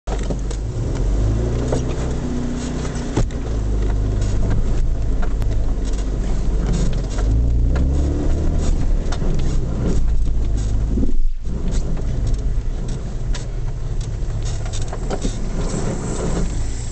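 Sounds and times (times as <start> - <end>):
car engine running in low gear: 0.0 - 16.9
bodywork knocking and rattling: 0.1 - 15.9.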